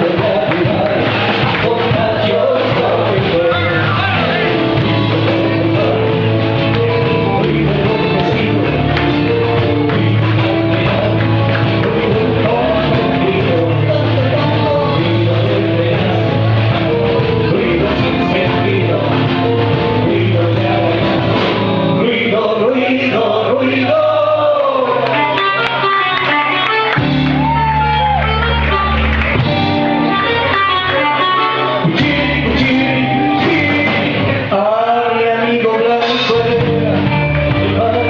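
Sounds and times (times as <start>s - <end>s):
person singing: 0.0s - 28.9s, 30.1s - 38.0s
rock band with guitar: 0.0s - 38.0s.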